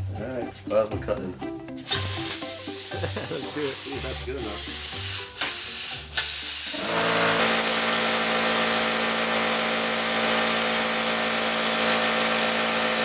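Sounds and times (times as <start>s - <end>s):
plasma cutter hissing: 1.9s - 13.0s.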